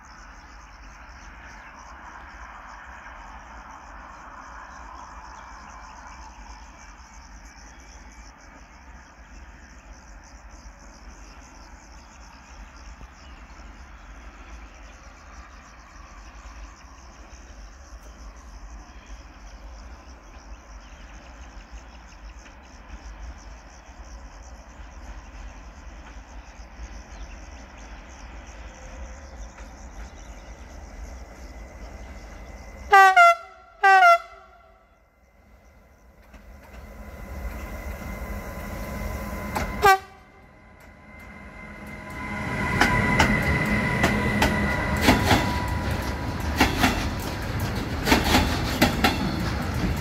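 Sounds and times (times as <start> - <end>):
crickets chirping: 0.0 - 50.0
distant train approaching: 0.0 - 50.0.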